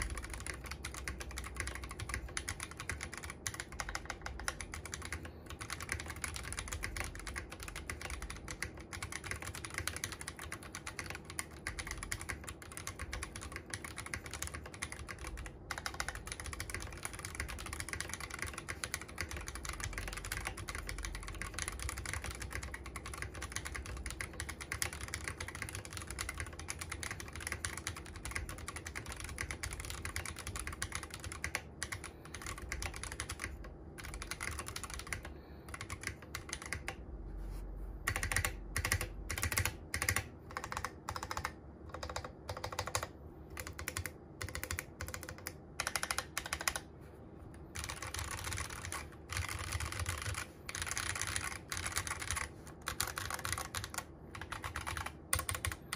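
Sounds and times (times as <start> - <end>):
fast typing on mechanical keyboard: 0.0 - 37.0, 38.0 - 46.9, 47.7 - 55.9.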